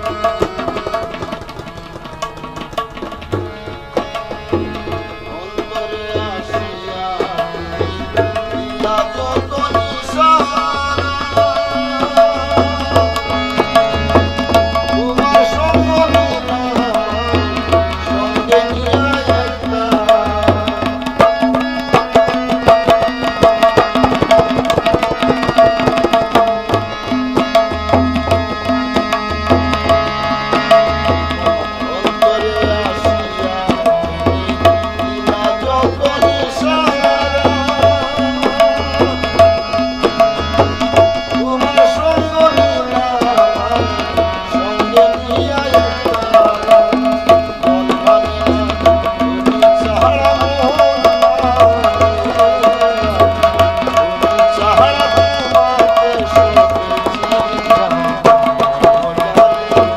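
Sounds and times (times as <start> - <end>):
hand drum rhythm: 0.0 - 59.9
harmonium chords: 0.0 - 59.9.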